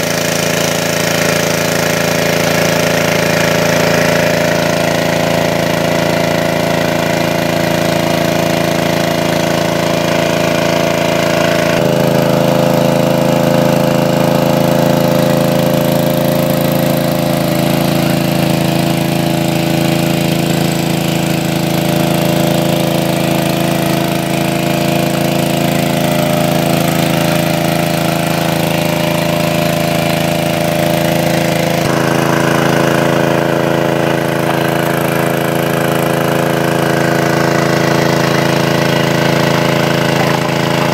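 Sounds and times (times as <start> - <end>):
water pump engine running: 0.0 - 40.9.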